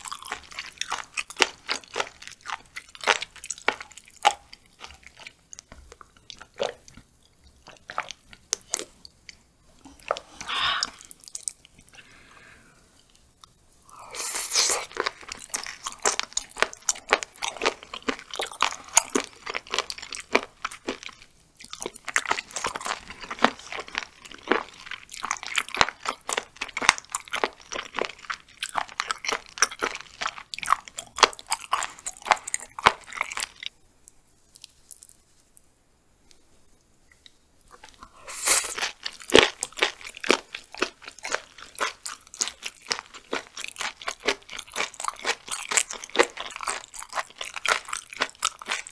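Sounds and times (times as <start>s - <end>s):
crunchy wet chewing: 0.0s - 12.2s, 13.0s - 33.8s, 37.1s - 48.9s.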